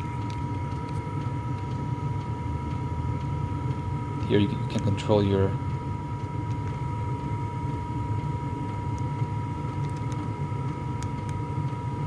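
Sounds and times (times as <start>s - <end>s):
air heater fan humming: 0.0s - 12.0s.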